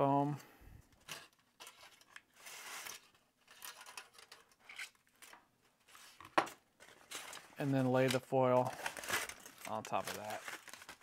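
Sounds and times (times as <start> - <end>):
crumpled aluminum foil rustling: 1.0 - 6.1, 6.8 - 11.0.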